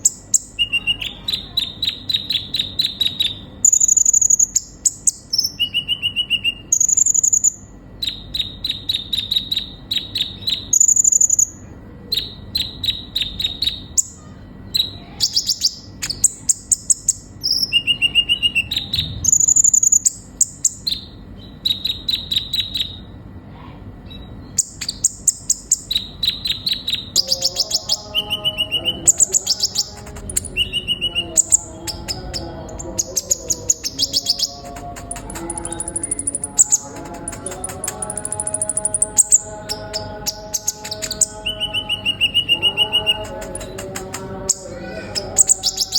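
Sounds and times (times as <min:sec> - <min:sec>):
sunbird chips and trills: 0:00.0 - 0:23.2, 0:24.0 - 0:45.9.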